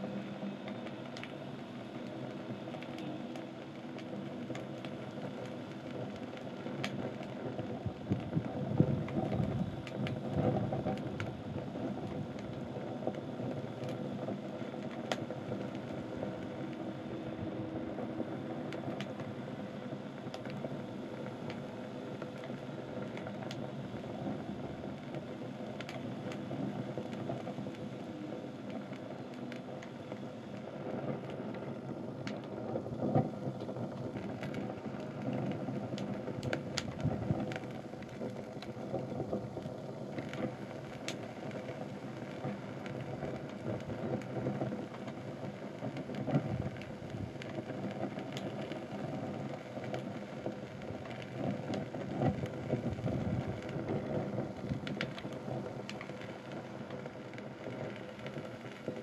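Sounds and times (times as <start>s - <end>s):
fire crackling and popping: 0.0s - 59.0s
low rushing of fire: 0.2s - 58.8s.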